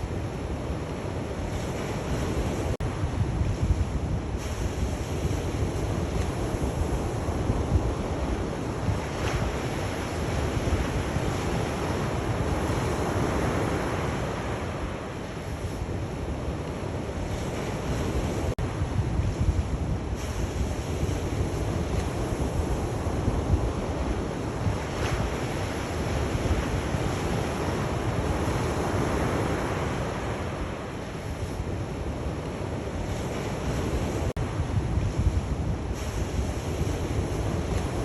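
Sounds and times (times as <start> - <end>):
sea waves washing on shore: 0.0 - 38.0
wind buffeting microphone: 0.0 - 38.0.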